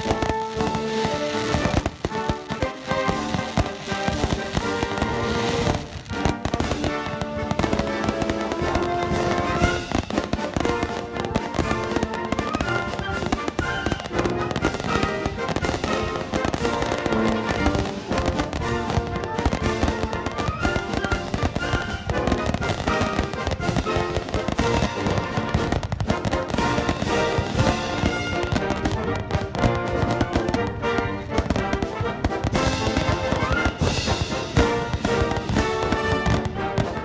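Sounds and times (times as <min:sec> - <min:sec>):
background music: 0:00.0 - 0:37.0
firework shells bursting and crackling: 0:00.0 - 0:37.0.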